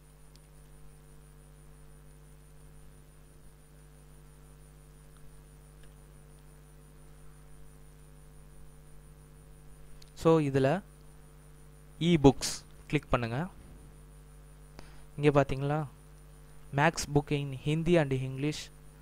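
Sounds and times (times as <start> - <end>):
electrical hum: 0.0 - 19.0
faint high whine: 0.0 - 19.0.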